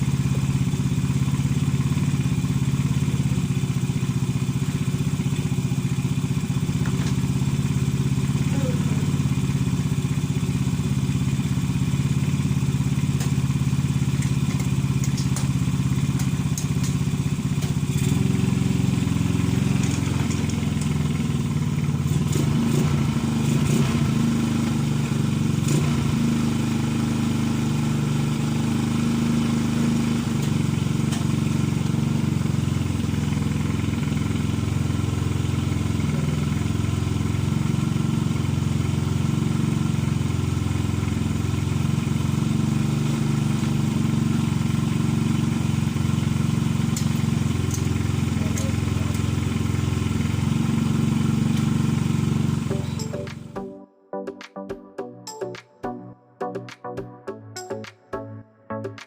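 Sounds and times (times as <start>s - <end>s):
scooter engine running: 0.0s - 53.6s.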